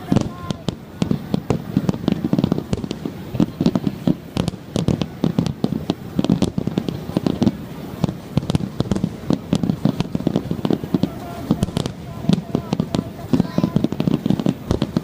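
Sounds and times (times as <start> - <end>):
firework shell bursts: 0.0 - 15.0.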